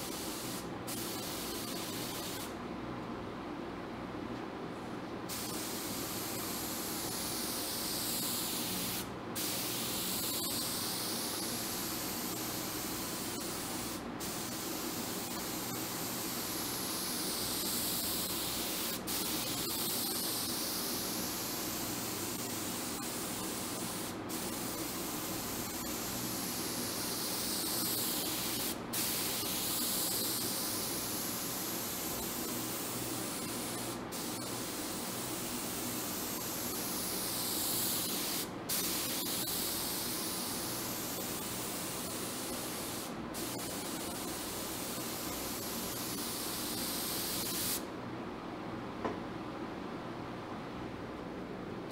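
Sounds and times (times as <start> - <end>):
spray gun hissing: 0.0 - 2.5, 5.3 - 47.9.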